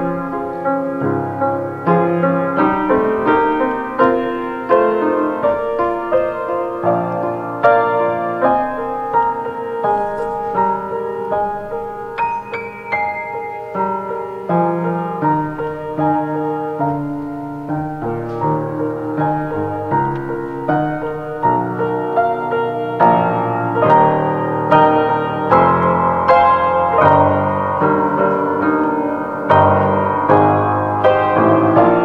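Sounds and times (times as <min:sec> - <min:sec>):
slow solo piano piece: 0:00.0 - 0:32.0.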